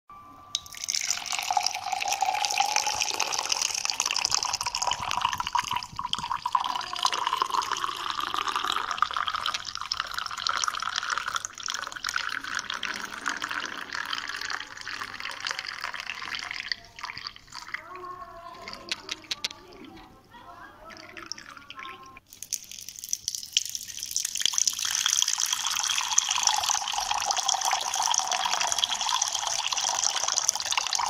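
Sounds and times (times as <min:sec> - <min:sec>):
liquid pouring into a glass: 0:00.5 - 0:20.0, 0:20.9 - 0:31.0.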